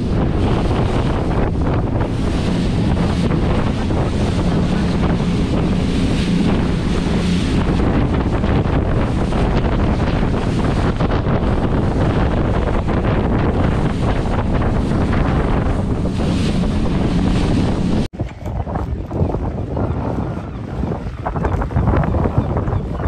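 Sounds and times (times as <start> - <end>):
boat engine hum: 0.0 - 23.0
wind buffeting microphone: 0.0 - 23.0.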